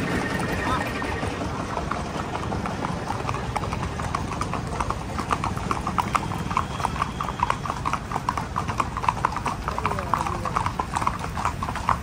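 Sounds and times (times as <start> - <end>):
horse hooves clip-clopping on road: 0.0 - 12.0.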